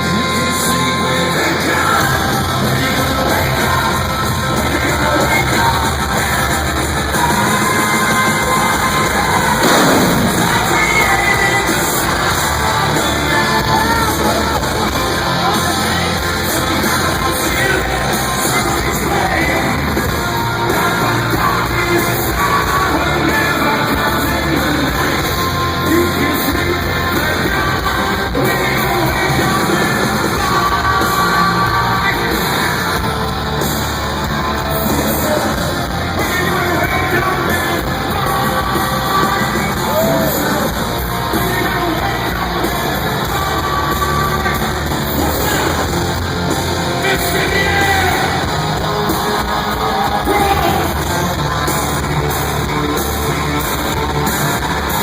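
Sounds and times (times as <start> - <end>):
live rock band playing: 0.0 - 55.0
singer singing and yelling: 0.0 - 55.0.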